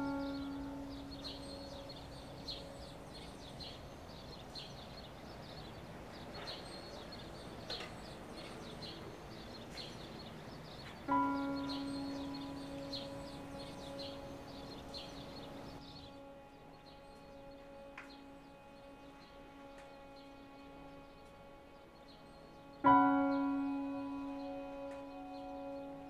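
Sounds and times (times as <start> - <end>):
low sustained musical note: 0.0 - 26.0.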